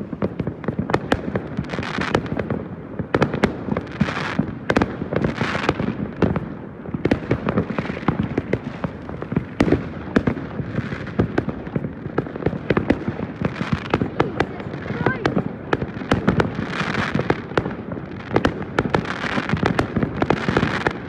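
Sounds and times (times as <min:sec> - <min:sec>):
fireworks bangs and crackle: 0:00.0 - 0:21.0.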